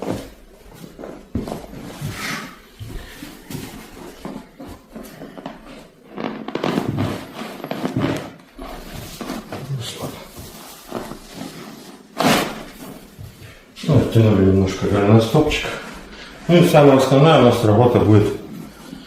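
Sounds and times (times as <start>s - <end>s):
clothing rustling on couch: 0.0s - 19.0s.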